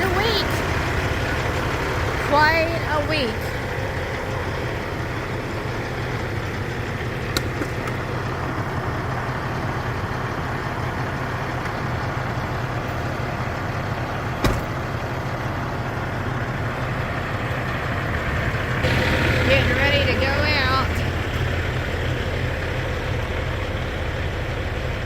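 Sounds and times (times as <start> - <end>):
diesel truck engine idling: 0.0 - 25.0.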